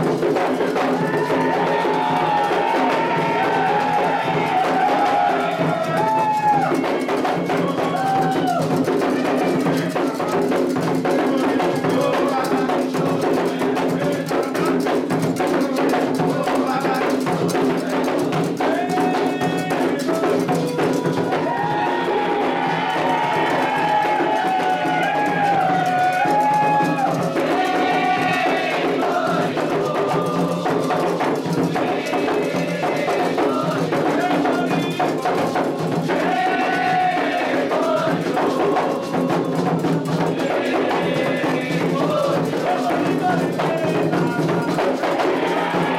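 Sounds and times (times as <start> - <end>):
hand drums and percussion: 0.0 - 45.9
people singing: 0.0 - 45.9
voices chanting: 0.1 - 45.9.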